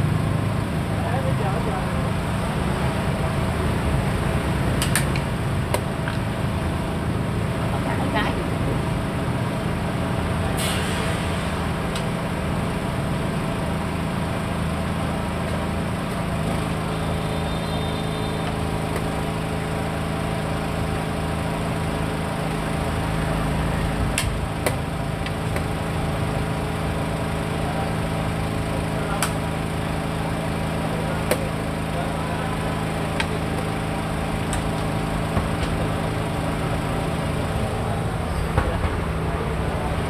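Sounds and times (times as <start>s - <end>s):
motor drone: 0.0s - 40.0s.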